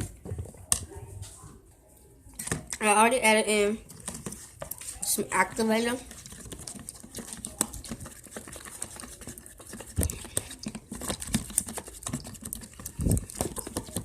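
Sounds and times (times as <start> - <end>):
spoon stirring wet slime: 2.0 - 14.0.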